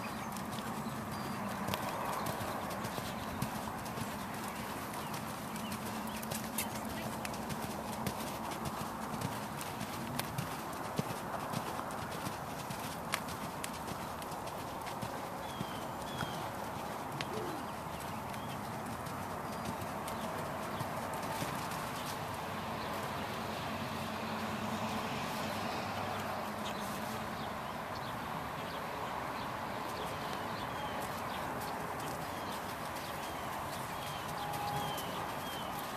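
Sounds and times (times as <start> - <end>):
horse hoofbeats on soft dirt: 0.0 - 28.8, 29.4 - 35.9.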